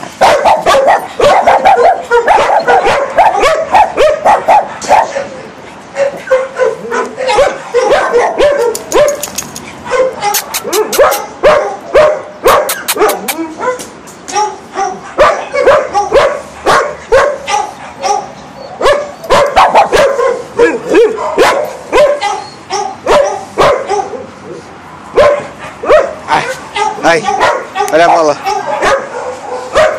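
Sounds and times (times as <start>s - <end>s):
dogs barking: 0.1s - 29.9s.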